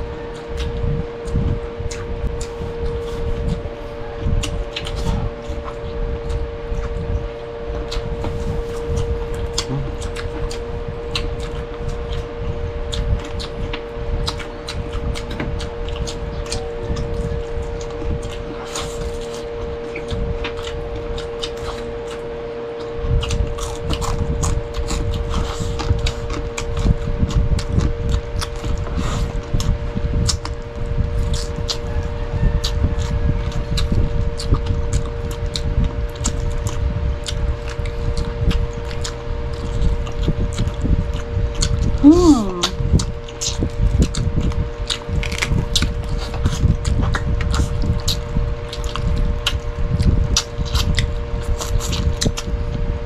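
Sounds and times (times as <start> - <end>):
chewing with clicks and smacks: 0.0 - 53.0
electrical hum: 0.0 - 53.0.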